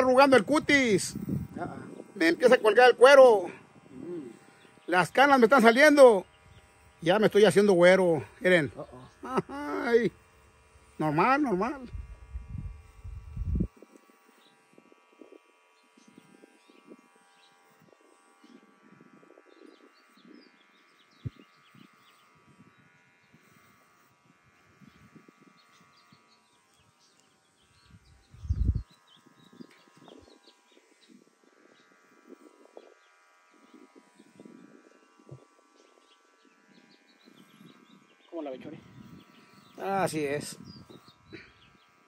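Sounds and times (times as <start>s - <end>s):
electric hair clippers humming: 0.0s - 42.0s.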